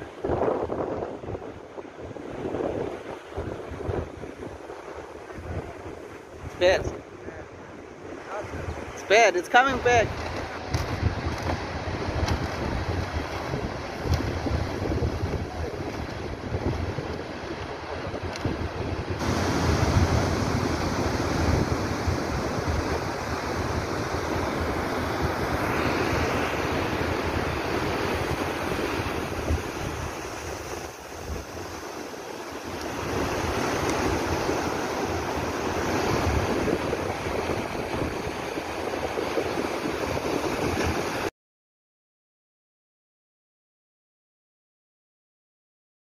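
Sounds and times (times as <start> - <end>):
wind buffeting microphone: 0.0 - 9.1, 9.7 - 41.3
surf breaking on beach: 0.0 - 41.3.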